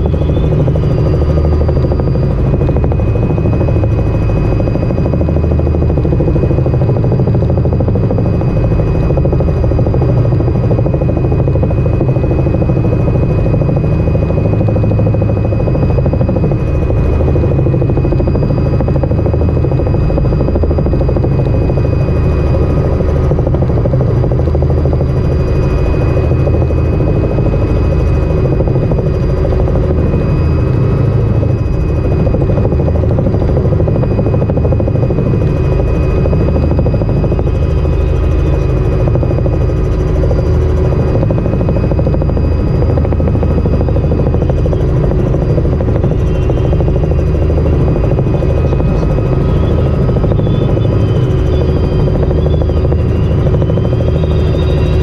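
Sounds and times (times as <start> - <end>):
helicopter rotor and engine drone: 0.0 - 55.0
thin steady whine: 0.0 - 55.0.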